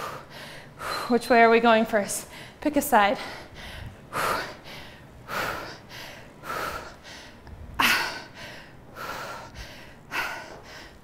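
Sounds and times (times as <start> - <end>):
woman breathing hard: 0.0 - 1.2, 2.2 - 11.0.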